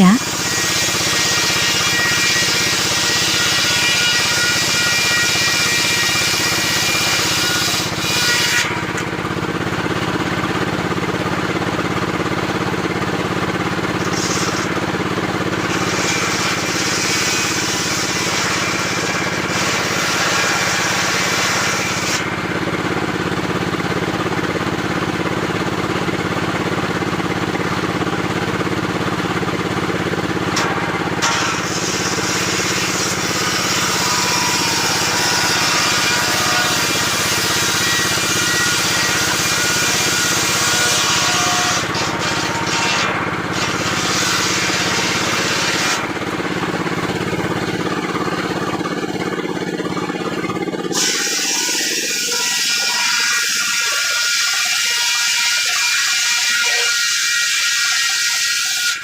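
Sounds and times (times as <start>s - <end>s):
machine hum: 0.0s - 55.3s
circular saw cutting timber: 0.0s - 59.0s.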